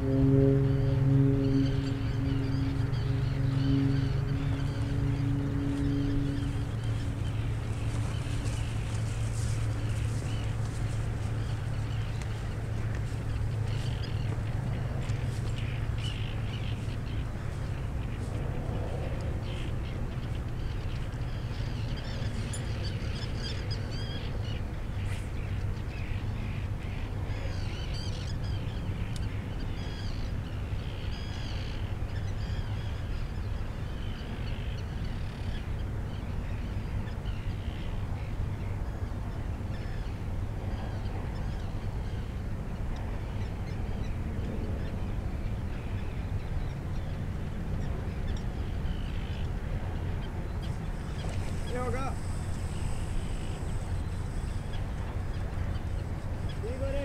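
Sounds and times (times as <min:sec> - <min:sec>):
birds calling: 0:00.0 - 0:57.0
steady low rumble: 0:00.0 - 0:57.0.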